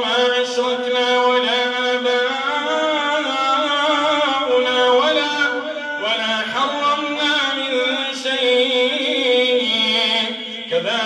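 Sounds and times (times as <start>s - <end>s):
man chanting melodic recitation: 0.0s - 11.0s.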